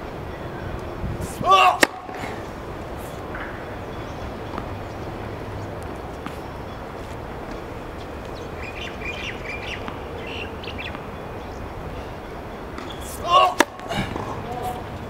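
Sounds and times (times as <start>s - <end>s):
birds chirping: 0.0s - 15.0s
outdoor background noise: 0.0s - 15.0s.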